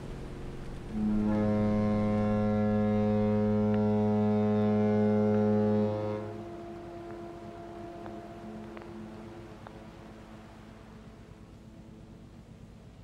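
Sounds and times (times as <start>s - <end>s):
ship's horn long low blast: 0.0s - 11.9s.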